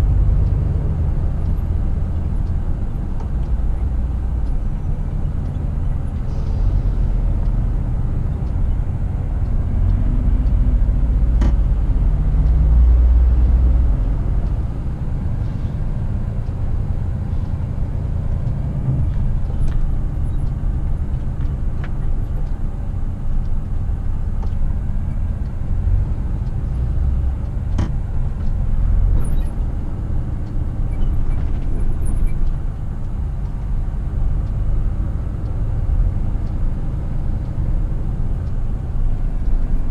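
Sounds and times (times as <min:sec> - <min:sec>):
diesel truck engine rumble: 0:00.0 - 0:39.9
road noise: 0:00.0 - 0:39.9.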